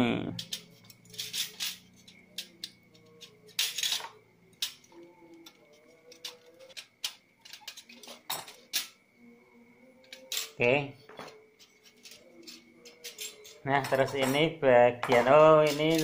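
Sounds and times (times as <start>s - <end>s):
metallic clicks and clinks: 0.4s - 9.0s, 9.9s - 16.0s.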